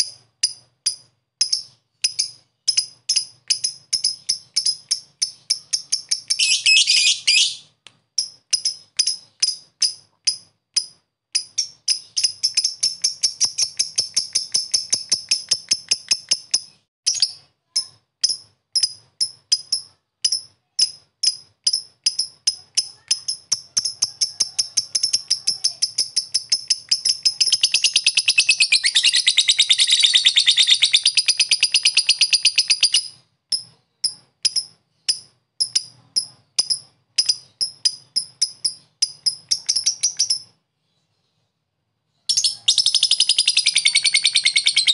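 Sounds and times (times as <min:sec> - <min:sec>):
bird high chirps: 0:00.0 - 0:41.5, 0:42.1 - 0:44.9
bird chattering trill: 0:00.9 - 0:40.5, 0:42.3 - 0:44.9.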